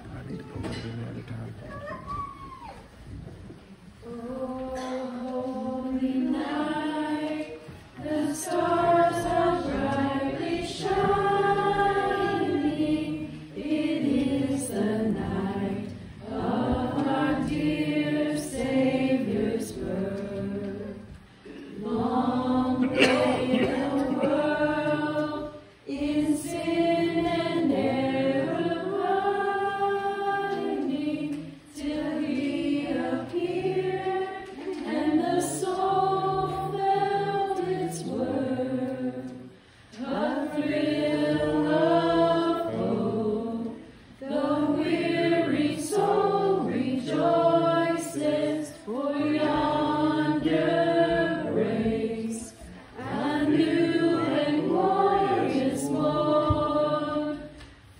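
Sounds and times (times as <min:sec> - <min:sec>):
group singing together: 0:03.8 - 0:57.9.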